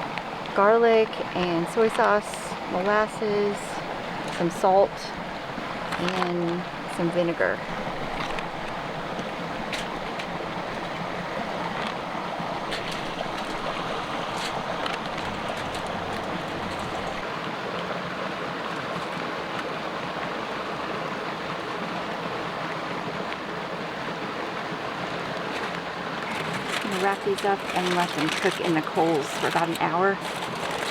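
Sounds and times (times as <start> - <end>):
creek rushing: 0.0 - 30.9.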